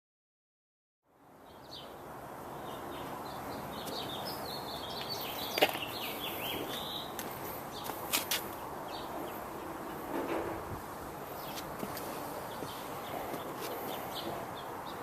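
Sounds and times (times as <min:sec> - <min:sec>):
small birds chirping: 0:01.4 - 0:10.2, 0:10.8 - 0:15.0.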